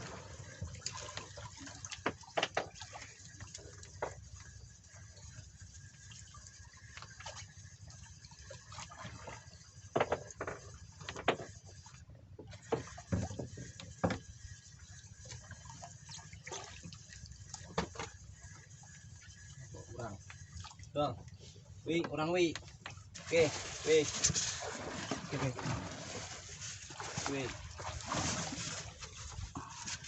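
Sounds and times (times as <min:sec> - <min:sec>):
seawater sloshing and splashing: 0:00.0 - 0:21.8, 0:22.6 - 0:30.0.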